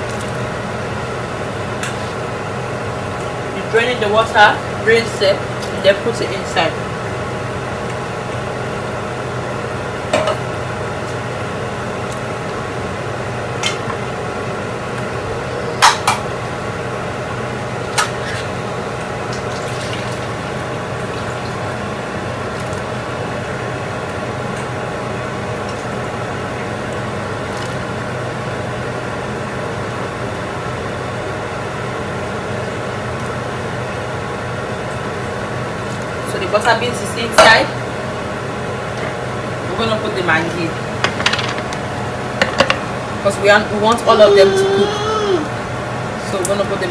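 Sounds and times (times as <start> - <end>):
mechanical hum: 0.0 - 46.9.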